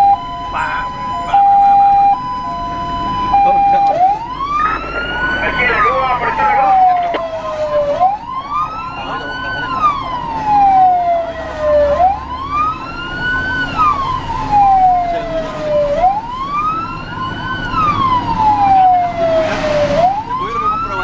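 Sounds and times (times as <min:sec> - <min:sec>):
fire engine wail siren: 0:00.0 - 0:21.0
truck engine rumbling: 0:00.0 - 0:21.0.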